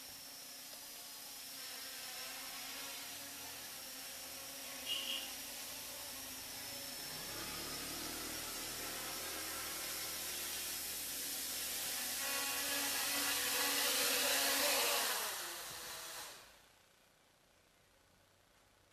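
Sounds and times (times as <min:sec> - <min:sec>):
quadcopter propellers buzzing: 0:00.0 - 0:16.6.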